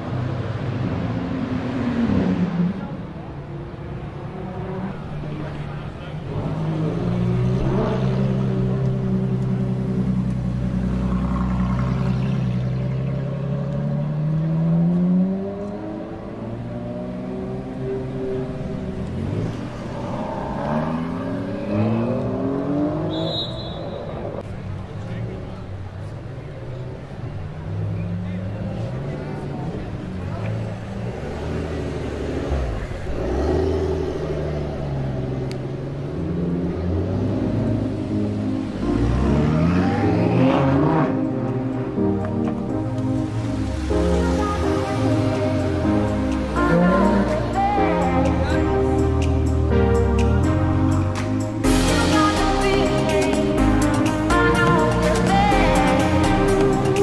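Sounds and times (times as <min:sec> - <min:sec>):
car engine pulling away: 0:00.0 - 0:57.0.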